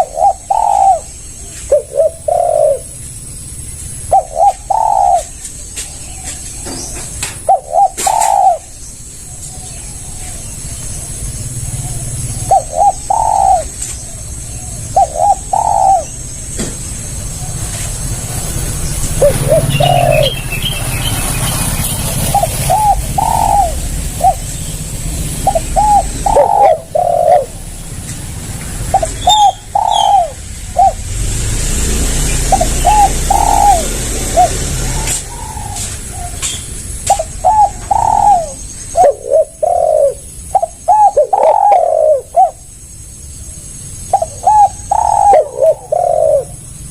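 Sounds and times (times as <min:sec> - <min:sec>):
dove cooing: 0:00.0 - 0:03.0, 0:04.0 - 0:16.3, 0:17.2 - 0:42.7, 0:44.0 - 0:46.8.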